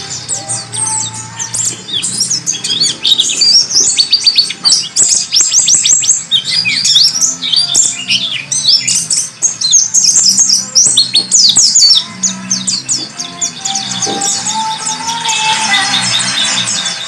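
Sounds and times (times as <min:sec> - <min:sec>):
songbird high chirps and trills: 0:00.0 - 0:17.0.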